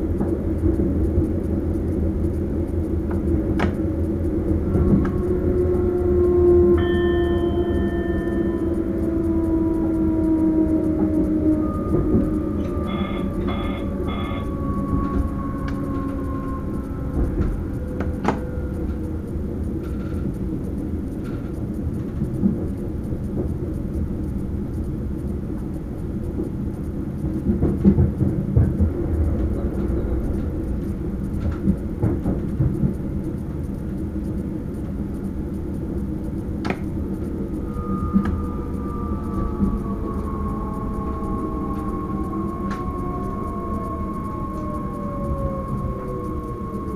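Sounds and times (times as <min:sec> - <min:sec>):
faint whine: 0:00.0 - 0:46.9
train wheels rumbling on rails: 0:00.0 - 0:46.9.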